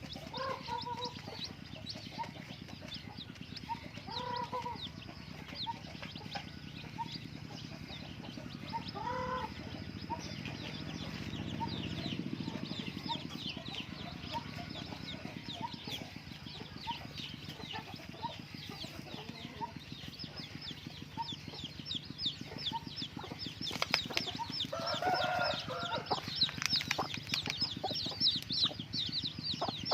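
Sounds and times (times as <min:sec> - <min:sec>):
chickens clucking: 0:00.0 - 0:29.9
chicks peeping: 0:00.0 - 0:29.9
steady low hum: 0:00.0 - 0:29.9.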